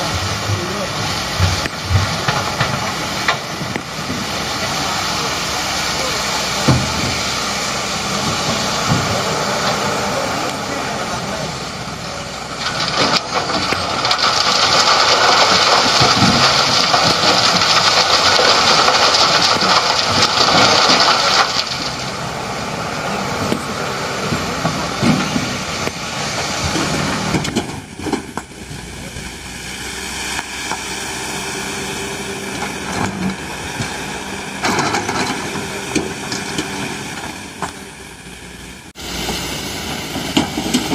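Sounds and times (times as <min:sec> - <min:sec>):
excavator and dump truck running: 0:00.0 - 0:40.9.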